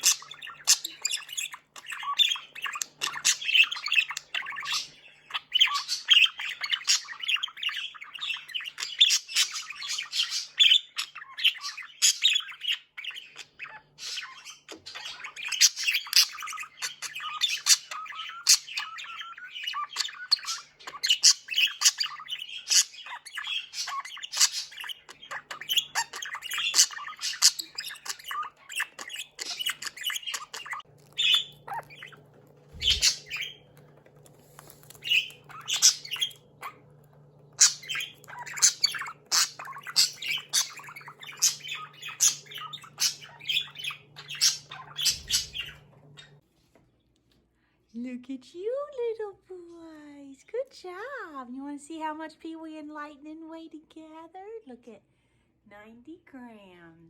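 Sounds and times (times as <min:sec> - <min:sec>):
budgerigars chattering: 0:00.0 - 0:33.7, 0:34.5 - 0:46.4.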